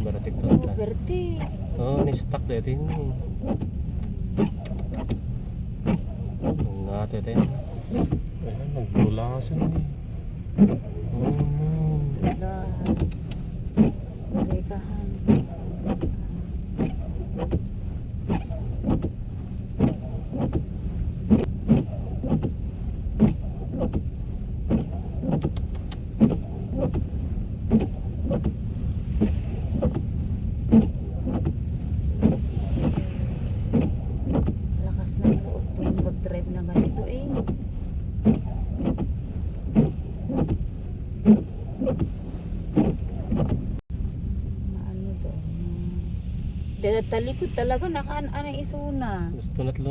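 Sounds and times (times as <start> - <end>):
windshield wipers sweeping: 0.0 - 44.2
car road and engine rumble: 0.0 - 49.9.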